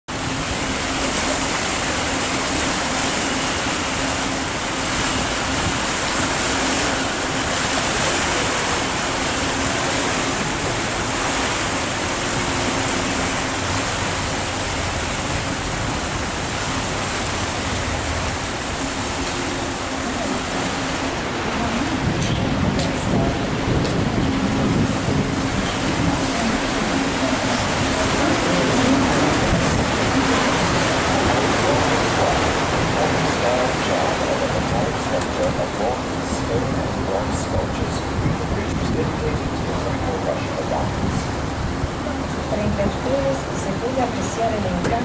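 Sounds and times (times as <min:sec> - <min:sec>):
water churning in boat wake: 0:00.1 - 0:45.0.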